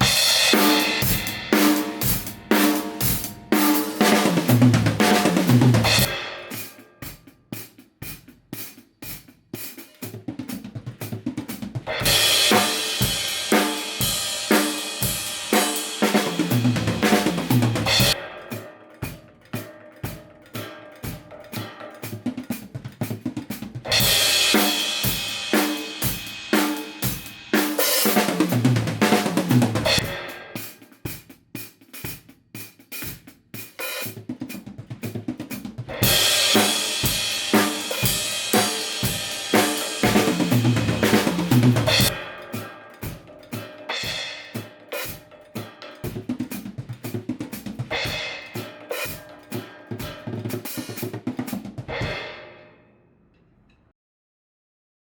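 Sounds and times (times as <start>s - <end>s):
drum kit playing a steady beat: 0.0s - 52.7s.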